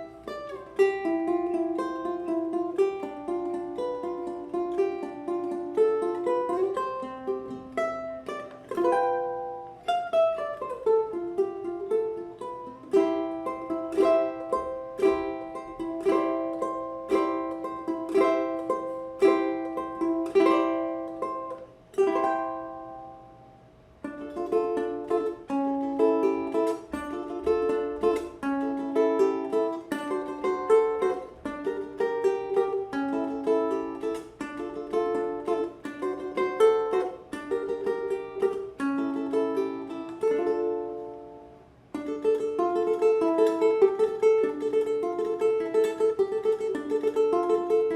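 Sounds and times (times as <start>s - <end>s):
ukulele plucked melody and chords: 0.0s - 47.9s.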